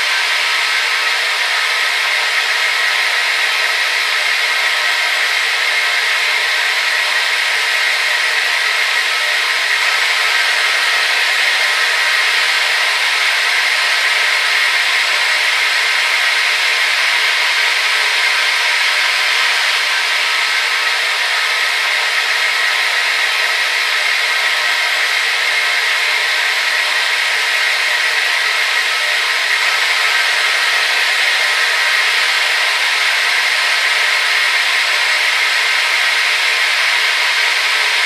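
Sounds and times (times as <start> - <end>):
hair dryer running: 0.0 - 38.0.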